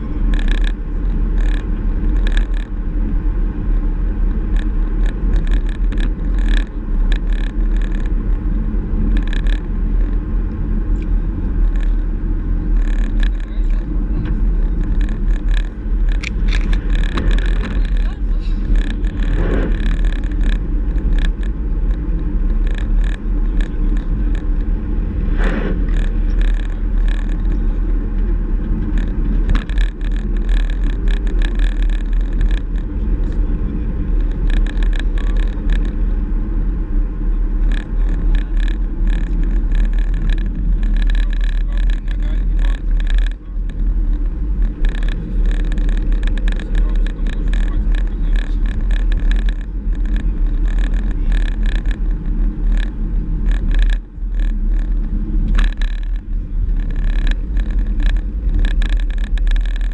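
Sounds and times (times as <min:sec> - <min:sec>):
small knocks and rattles: 0:00.0 - 0:02.7, 0:04.3 - 0:08.5, 0:09.1 - 0:10.2, 0:12.7 - 0:33.4, 0:34.0 - 0:36.0, 0:37.6 - 0:59.9
car engine and road noise: 0:00.0 - 0:59.9.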